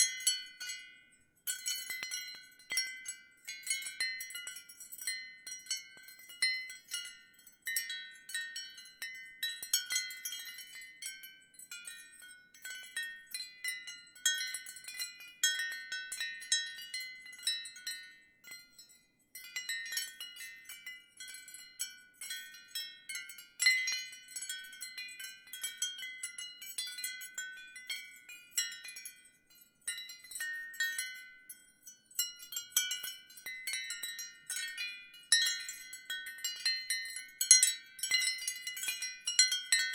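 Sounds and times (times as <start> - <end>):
ceramic wind chime ringing: 0.0 - 39.9.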